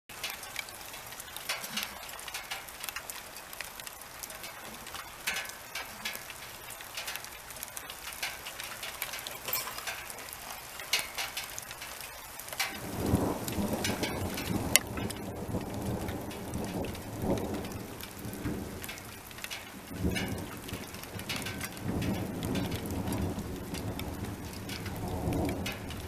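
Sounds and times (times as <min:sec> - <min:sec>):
drops ticking: 0:00.1 - 0:26.0
rain falling: 0:00.1 - 0:26.0.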